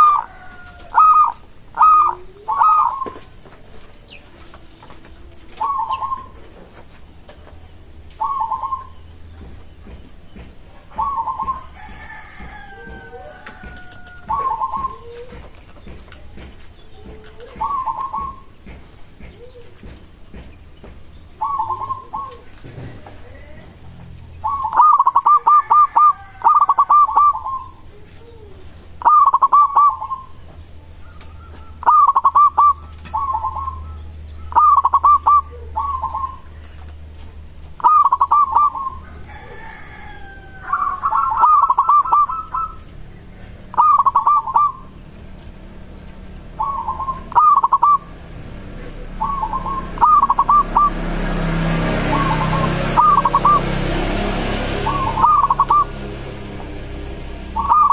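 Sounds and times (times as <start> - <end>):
dove cooing: 0.0 - 10.0, 10.8 - 20.5, 21.3 - 23.8, 24.4 - 57.9.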